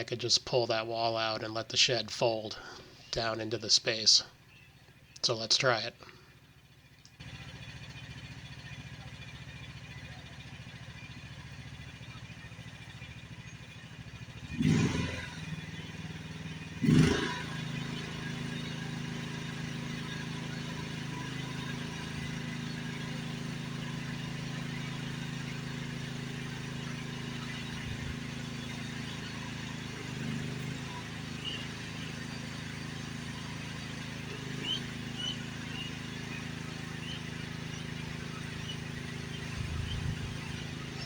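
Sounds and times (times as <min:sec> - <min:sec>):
small machine engine running: 0:06.2 - 0:41.0.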